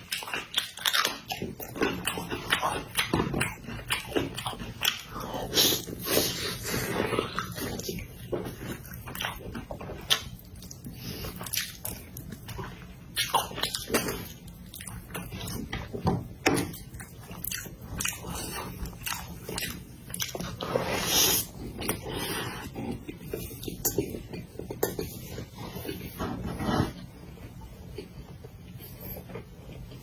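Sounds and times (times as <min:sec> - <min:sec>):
wet chewing and smacking: 0:00.0 - 0:26.2.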